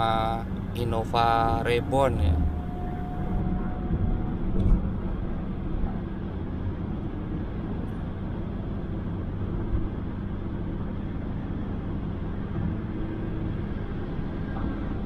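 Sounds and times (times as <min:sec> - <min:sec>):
car engine droning inside cabin: 0:00.0 - 0:15.0
road noise: 0:00.0 - 0:15.0.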